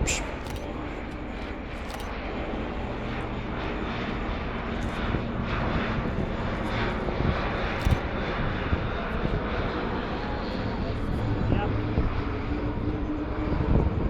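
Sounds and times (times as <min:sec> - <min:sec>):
turboprop aircraft passing: 0:00.0 - 0:14.0.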